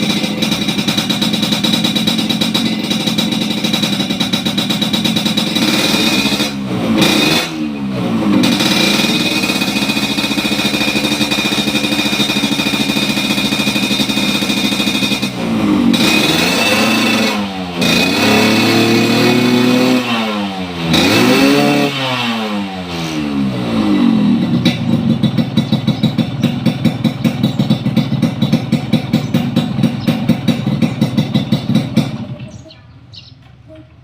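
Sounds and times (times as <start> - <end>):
motorcycle engine idling: 0.0 - 21.7, 22.5 - 34.0
two-stroke motorcycle engine revving: 0.0 - 34.0.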